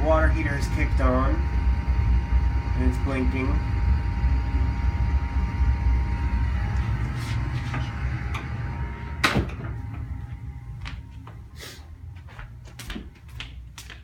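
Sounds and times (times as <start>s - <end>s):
water heater rumbling: 0.0s - 13.8s.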